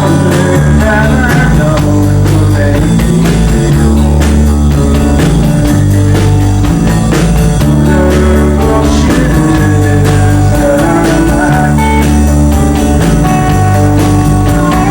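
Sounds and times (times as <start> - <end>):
bass notes: 0.0 - 14.9
drum kit beat: 0.0 - 14.9
electric guitar: 0.0 - 14.9.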